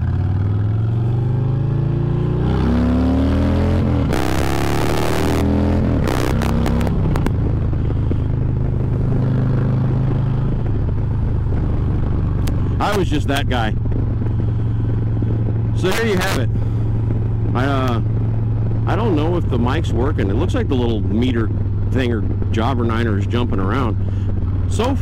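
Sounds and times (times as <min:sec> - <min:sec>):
motorcycle engine accelerating: 0:00.0 - 0:25.0
rush of noise: 0:01.1 - 0:25.0.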